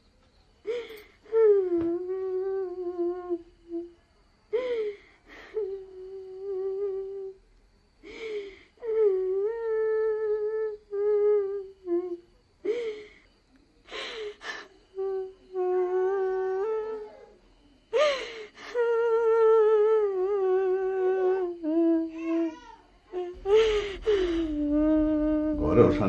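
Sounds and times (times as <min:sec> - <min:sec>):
woman humming mournful tune: 0:00.7 - 0:07.4, 0:08.0 - 0:13.2, 0:13.9 - 0:26.0.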